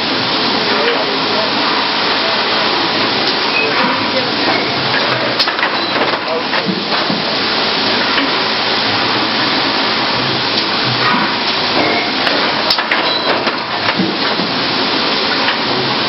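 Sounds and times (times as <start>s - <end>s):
machine running: 0.0s - 16.0s.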